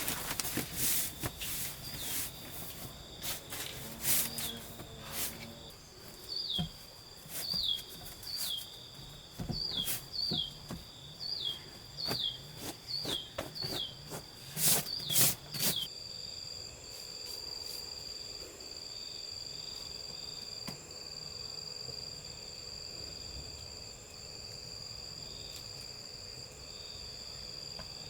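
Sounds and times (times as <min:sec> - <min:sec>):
high insect-like whine: 0:00.0 - 0:28.0.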